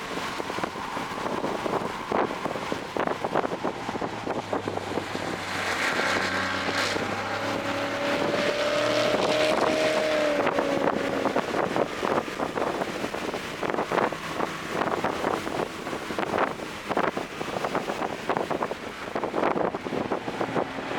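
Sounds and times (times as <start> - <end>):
car engine running at speed: 0.0 - 20.9
wind noise: 0.0 - 20.9.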